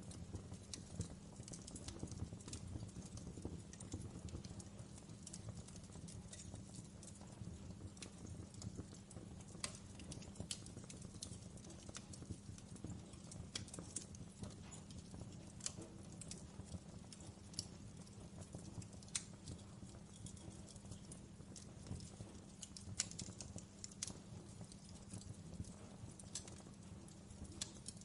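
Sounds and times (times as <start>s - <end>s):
low rumble of burning: 0.0s - 28.0s
wood fire crackling and popping: 0.0s - 28.0s.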